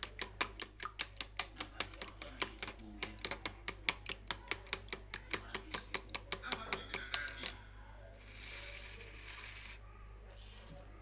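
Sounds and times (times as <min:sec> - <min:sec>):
spoon beating eggs in plastic tub: 0:00.0 - 0:09.8.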